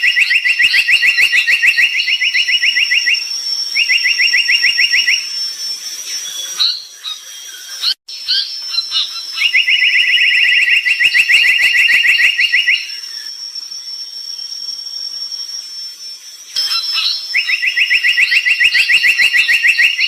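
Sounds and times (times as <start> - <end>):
songbird singing: 0.0 - 20.0
thin steady high tone: 2.5 - 10.7, 11.4 - 19.5.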